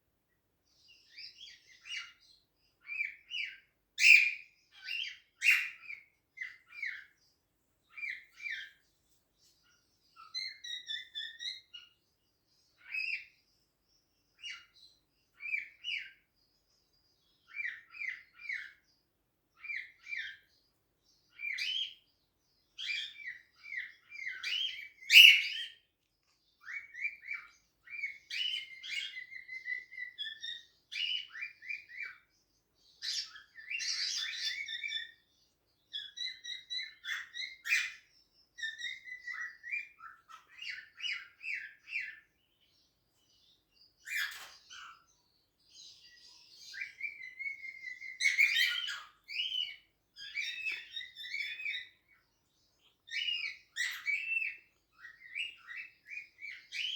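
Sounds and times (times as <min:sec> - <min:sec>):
cockatiels chirping: 0:00.8 - 0:07.2, 0:07.8 - 0:08.8, 0:09.6 - 0:12.0, 0:12.7 - 0:13.4, 0:14.4 - 0:16.3, 0:17.2 - 0:18.9, 0:19.5 - 0:20.6, 0:21.3 - 0:22.0, 0:22.7 - 0:25.9, 0:26.6 - 0:56.9.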